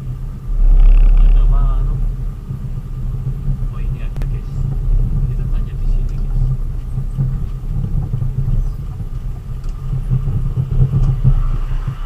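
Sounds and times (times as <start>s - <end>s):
road noise: 0.0s - 12.0s
vehicle engine rumbling: 0.0s - 12.0s.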